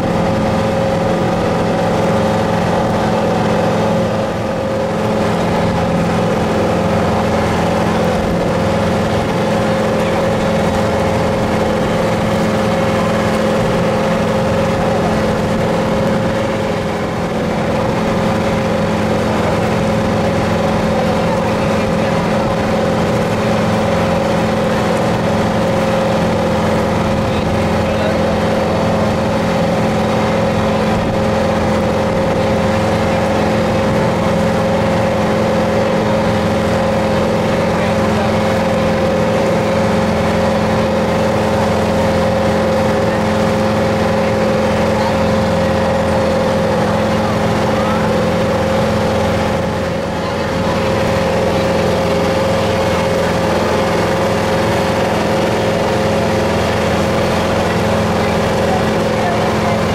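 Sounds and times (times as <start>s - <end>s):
motorboat engine droning: 0.0s - 59.9s
water rushing: 0.0s - 59.9s
wind: 0.0s - 59.9s.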